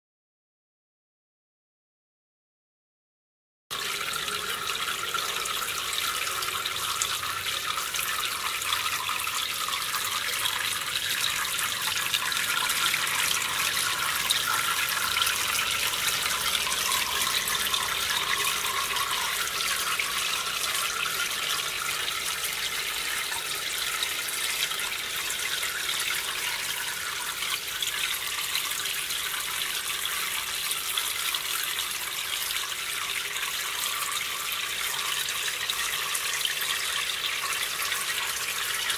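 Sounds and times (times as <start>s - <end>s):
water trickling into tank: 3.7s - 38.9s.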